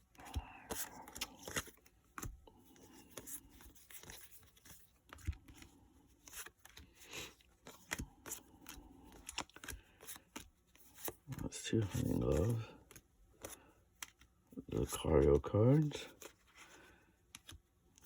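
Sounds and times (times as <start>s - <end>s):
trading cards tapping and sliding: 0.2s - 14.3s, 16.1s - 18.0s.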